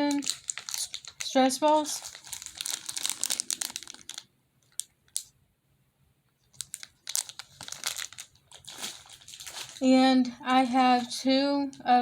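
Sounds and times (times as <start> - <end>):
plastic packaging crinkling: 0.0 - 5.3, 6.4 - 12.0.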